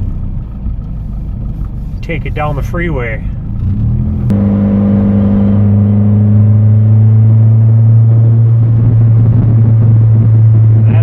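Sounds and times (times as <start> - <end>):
car exhaust drone in cabin: 0.0 - 11.0.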